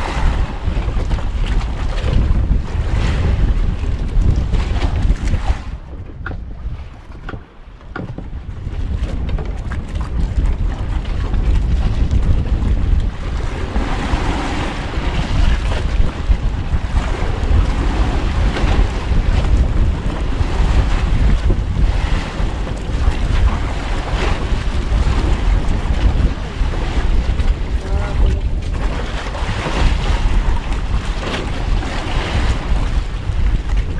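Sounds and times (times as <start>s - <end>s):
sea waves: 0.0s - 33.9s
wind buffeting the microphone: 0.0s - 33.9s.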